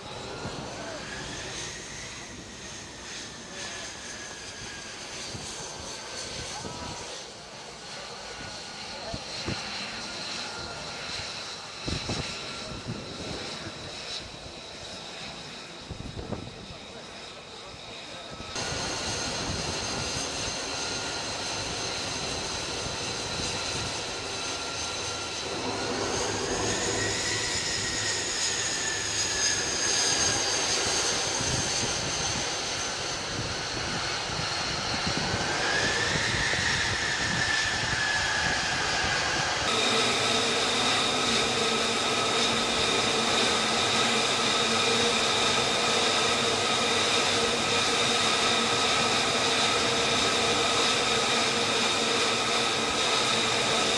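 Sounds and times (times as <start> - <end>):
jet engine whine: 0.0 - 53.9.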